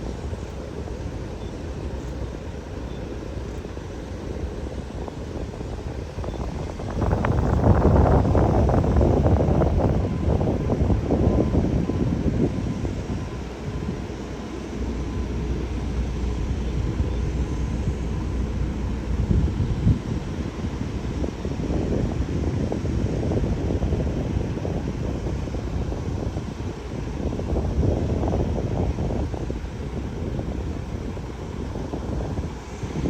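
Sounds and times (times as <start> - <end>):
jet engines rumbling: 0.0 - 33.0
wind buffeting microphone: 0.0 - 33.0.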